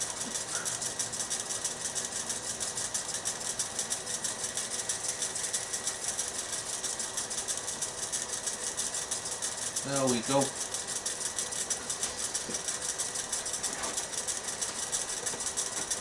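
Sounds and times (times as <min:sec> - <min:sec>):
high-pitched ticking: 0:00.0 - 0:16.0
wood lathe humming: 0:00.0 - 0:16.0.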